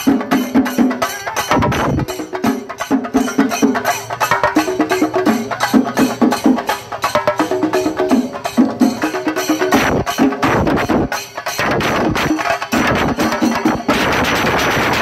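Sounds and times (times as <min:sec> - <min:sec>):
drums beaten with sticks: 0:00.0 - 0:15.0.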